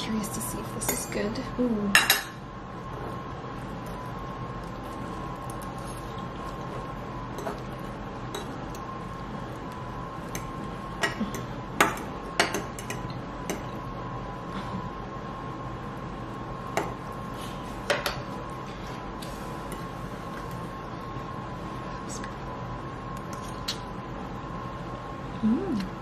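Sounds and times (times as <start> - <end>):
room hum: 0.0 - 26.0.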